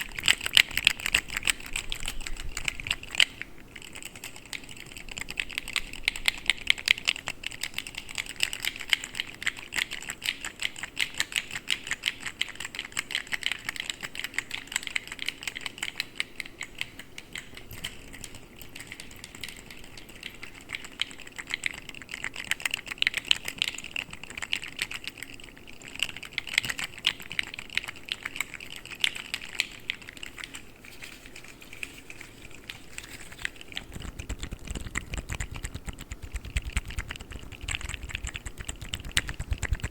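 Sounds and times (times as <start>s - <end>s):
plastic toy clicks and rattles: 0.0s - 39.9s.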